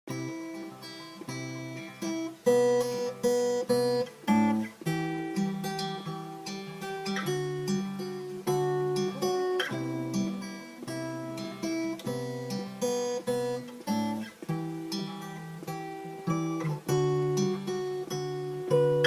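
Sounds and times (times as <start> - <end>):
acoustic guitar strumming chords: 0.1 - 19.0.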